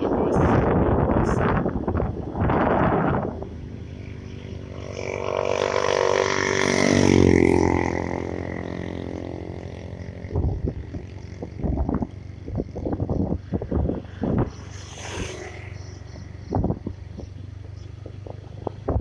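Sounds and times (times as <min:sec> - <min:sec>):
vehicle engine passing by: 0:02.4 - 0:19.0.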